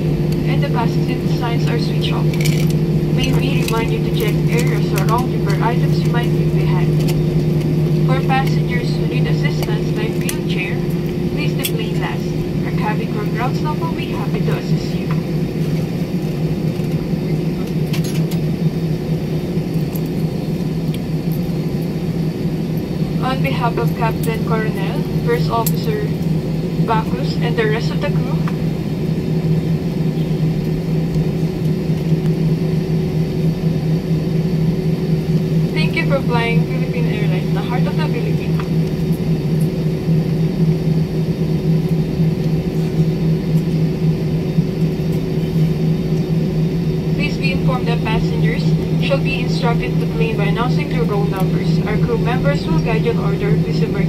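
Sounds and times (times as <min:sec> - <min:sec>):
jet airliner cabin rumble: 0:00.0 - 0:54.0.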